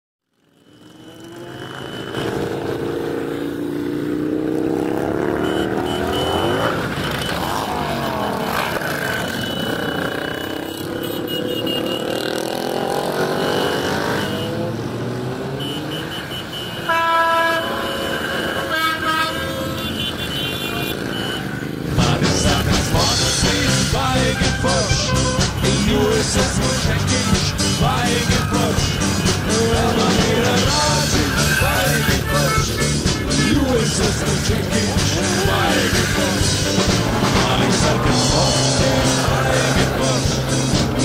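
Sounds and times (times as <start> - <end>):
motorcycle engines passing by: 0.2 - 41.0.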